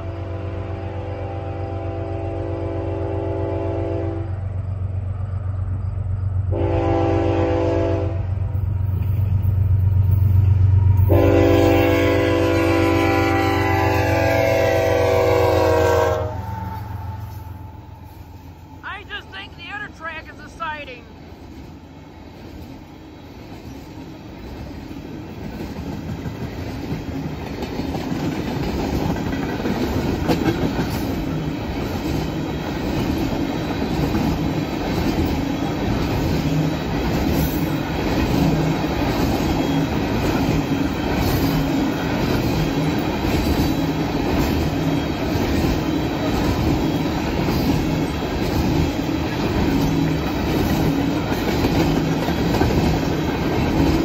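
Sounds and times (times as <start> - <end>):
freight train wheels clicking: 8.3 - 54.0.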